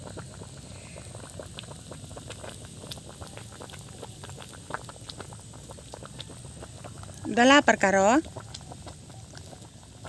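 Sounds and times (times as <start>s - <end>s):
curry bubbling at a boil: 0.0s - 10.0s.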